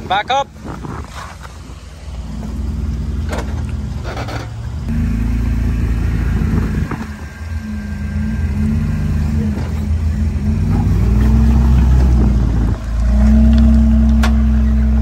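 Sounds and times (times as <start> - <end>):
engine revving under load: 2.2 - 15.0.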